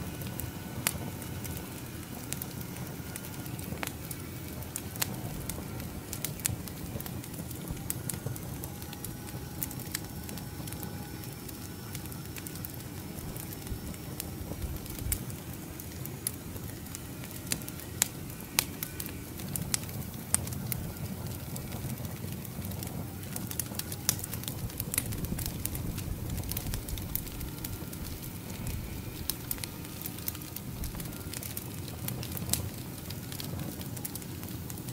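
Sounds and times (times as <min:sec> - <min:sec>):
firewood crackling and popping: 0:00.0 - 0:34.9
low rush of fire: 0:00.0 - 0:34.9.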